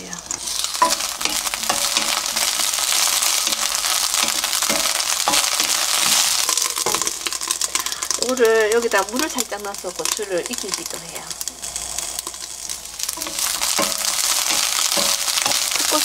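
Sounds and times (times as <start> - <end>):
peppers sizzling in oil: 0.0 - 16.0.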